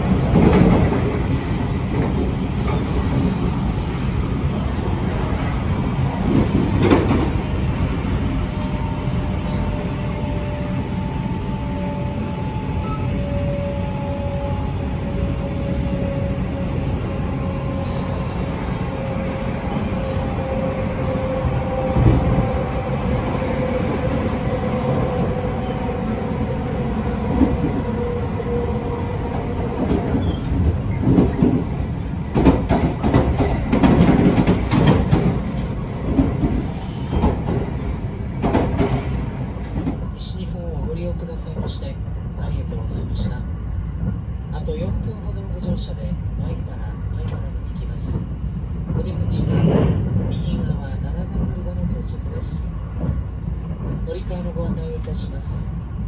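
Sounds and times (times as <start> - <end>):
train cabin rumble: 0.0 - 56.0.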